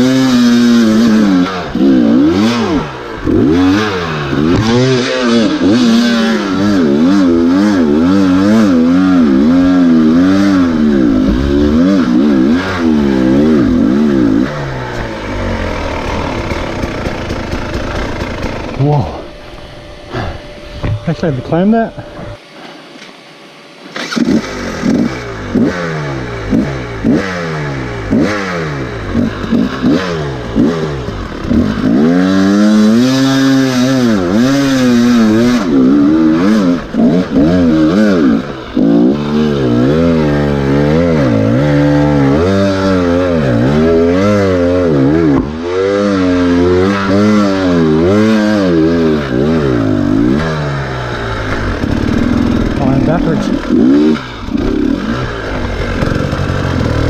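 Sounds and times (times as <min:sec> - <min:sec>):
dirt bike engine revving: 0:00.0 - 0:22.5, 0:23.9 - 0:57.0.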